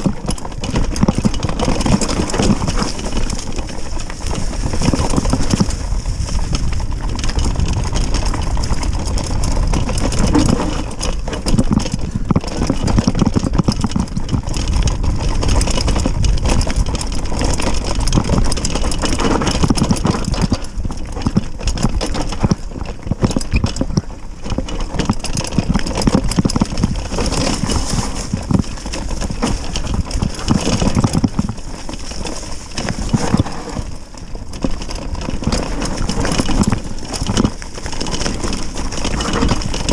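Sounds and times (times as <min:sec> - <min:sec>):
bike rattling over rough ground: 0:00.0 - 0:39.9.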